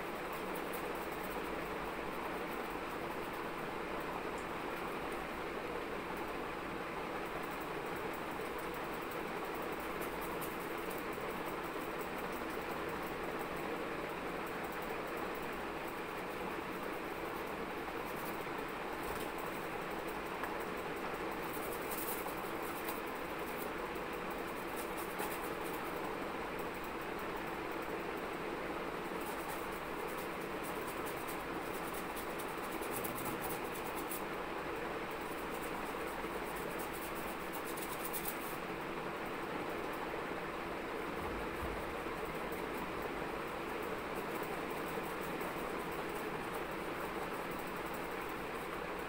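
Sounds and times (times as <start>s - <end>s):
small room background noise: 0.0s - 49.0s.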